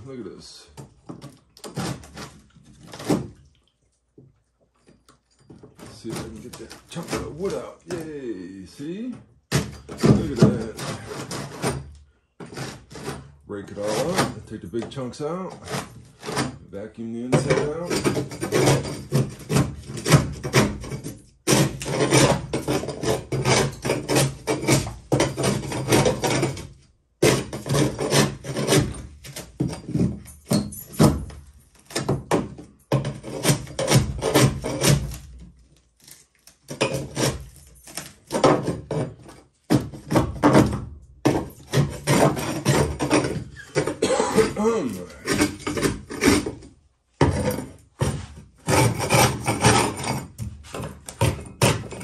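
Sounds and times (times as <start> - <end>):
scraper rasping on boat hull: 1.2 - 3.4, 5.7 - 8.9, 9.6 - 14.6, 15.3 - 30.4, 33.0 - 40.7, 41.3 - 52.0.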